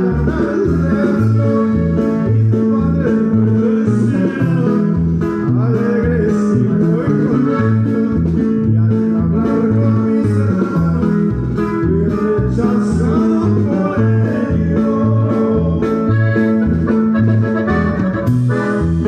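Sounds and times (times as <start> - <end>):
band music with plucked strings: 0.0 - 19.0
bass playing two notes: 0.0 - 19.0.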